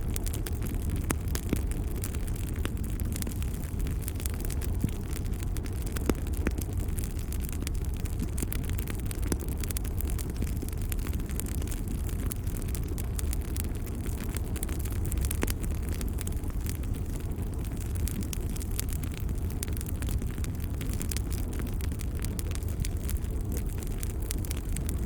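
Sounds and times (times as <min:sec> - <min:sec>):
fire crackling and popping: 0:00.0 - 0:25.0
low rumble of fire: 0:00.0 - 0:25.0.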